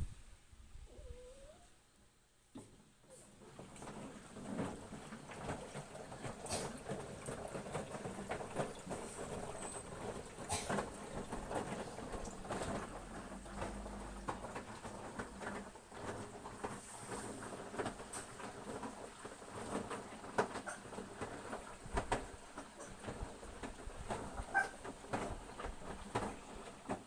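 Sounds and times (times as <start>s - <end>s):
washing machine running: 3.3s - 27.0s.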